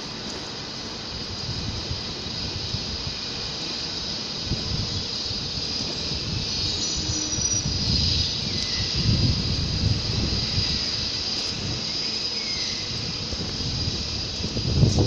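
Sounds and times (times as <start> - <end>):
steady high hiss: 0.0 - 15.0
train rumbling on tracks: 0.0 - 15.0
thin wheel squeal: 2.3 - 15.0.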